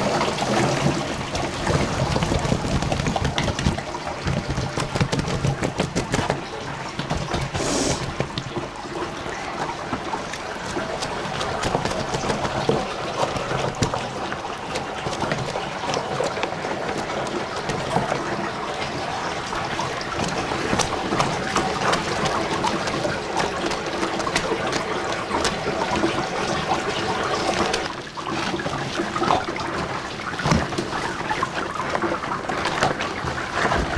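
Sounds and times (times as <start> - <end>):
liquid splashing and trickling: 0.0 - 33.9.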